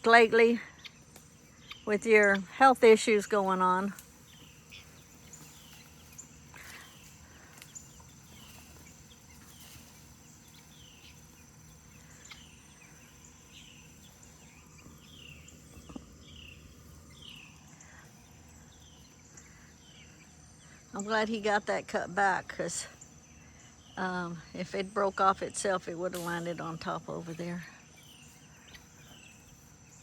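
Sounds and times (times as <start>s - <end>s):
bird chirping: 0.0s - 21.5s, 22.8s - 30.0s
high insect trill: 0.0s - 30.0s.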